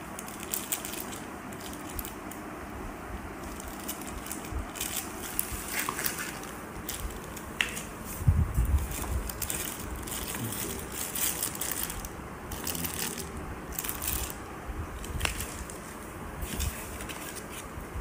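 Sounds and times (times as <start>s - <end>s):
plastic bag crinkling: 0.0s - 2.5s, 3.4s - 7.9s, 8.6s - 14.4s, 15.0s - 17.7s.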